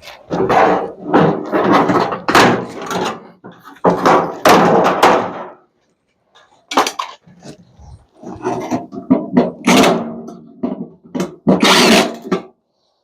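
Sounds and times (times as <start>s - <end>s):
metal knocking and scraping: 0.0s - 5.6s, 6.4s - 12.5s.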